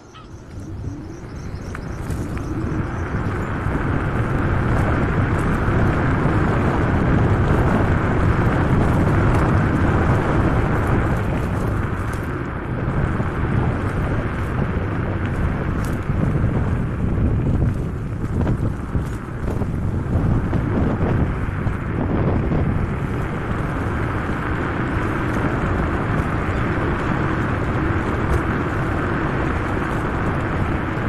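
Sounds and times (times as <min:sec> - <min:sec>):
scooter road rumble: 0:00.0 - 0:31.0
wind on camera microphone: 0:00.0 - 0:31.0.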